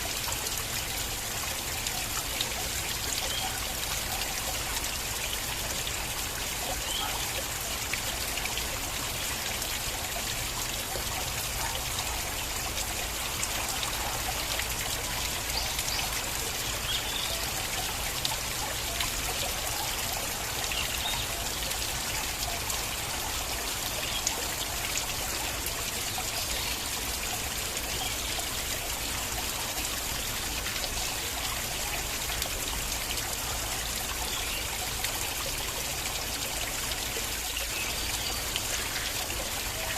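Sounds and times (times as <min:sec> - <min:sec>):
stream water flowing: 0:00.0 - 0:39.9
water splashes and drips: 0:00.0 - 0:39.9.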